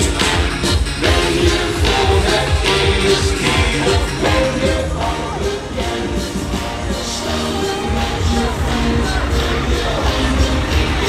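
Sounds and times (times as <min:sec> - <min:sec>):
loud music with heavy bass beat: 0:00.0 - 0:11.0.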